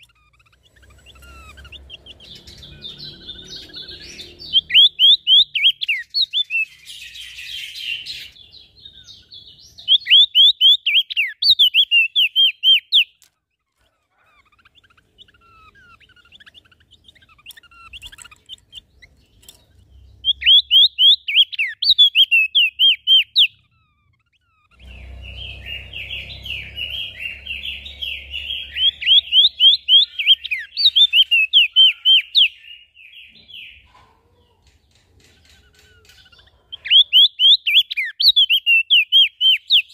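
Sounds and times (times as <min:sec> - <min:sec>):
songbird chirping and warbling: 0:00.0 - 0:39.9.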